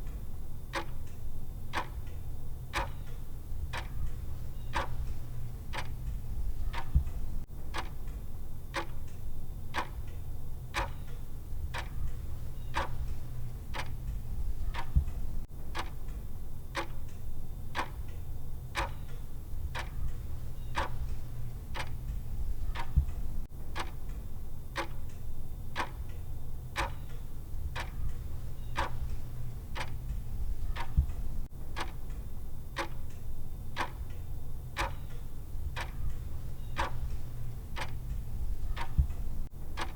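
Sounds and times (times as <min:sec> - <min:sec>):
clock ticking: 0:00.0 - 0:18.2, 0:18.8 - 0:39.9
steady low hum: 0:00.0 - 0:39.9.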